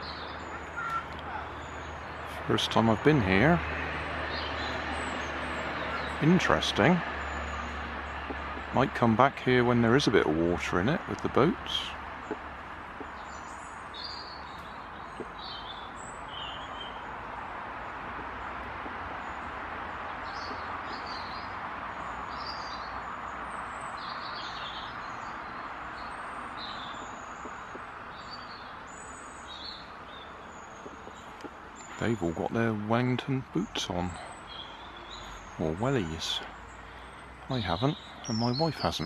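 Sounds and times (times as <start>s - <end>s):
road traffic noise: 0.0s - 39.0s
small birds chirping: 0.0s - 39.0s.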